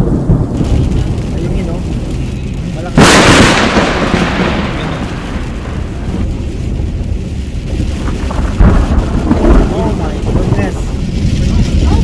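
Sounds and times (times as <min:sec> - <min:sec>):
car road noise: 0:00.0 - 0:12.0
thunder rumbling: 0:00.0 - 0:12.0.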